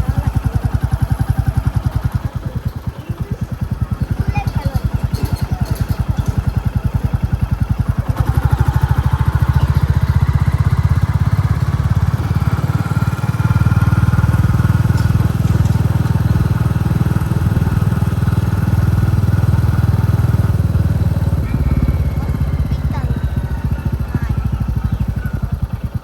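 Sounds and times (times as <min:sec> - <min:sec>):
motorcycle engine thumping: 0:00.0 - 0:26.0.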